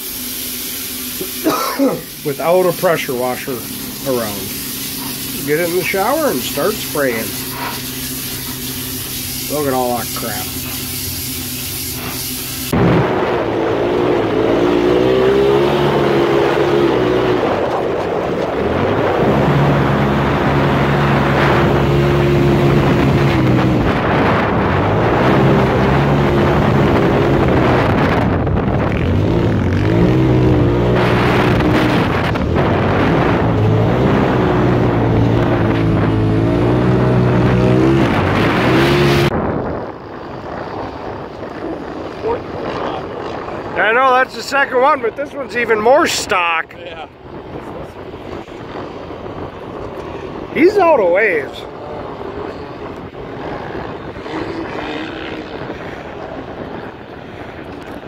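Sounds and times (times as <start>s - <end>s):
engine revving: 0.0s - 39.5s, 50.1s - 58.0s.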